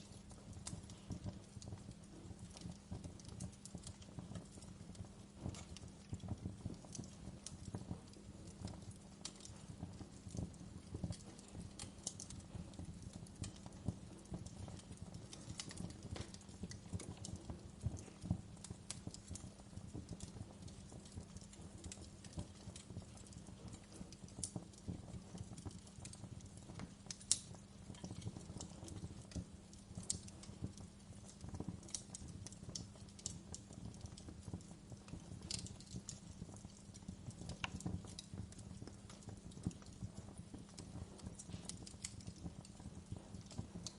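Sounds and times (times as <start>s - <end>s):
low rumble of burning fire: 0.0s - 43.9s
wood fire crackling: 0.0s - 43.9s.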